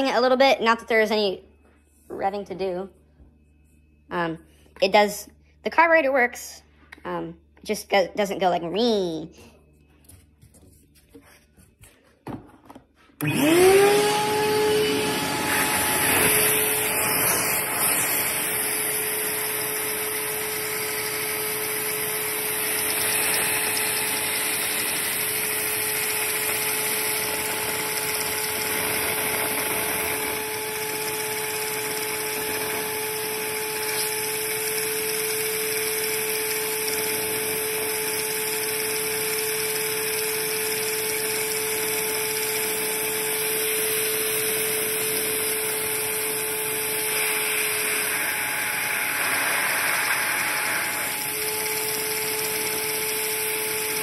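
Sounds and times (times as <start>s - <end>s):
shop vac running: 9.4s - 54.0s.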